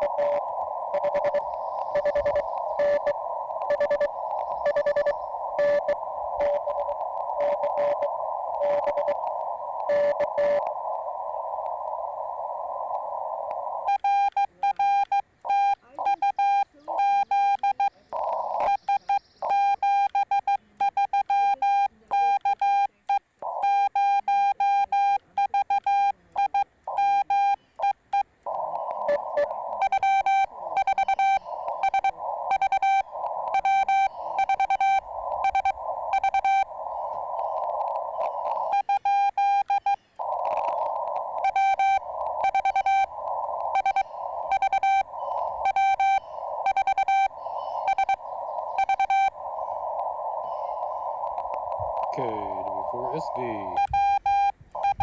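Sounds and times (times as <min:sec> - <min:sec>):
morse code tone: 0:00.0 - 0:10.7, 0:13.9 - 0:22.9, 0:23.6 - 0:55.0
receiver hiss: 0:00.0 - 0:55.0.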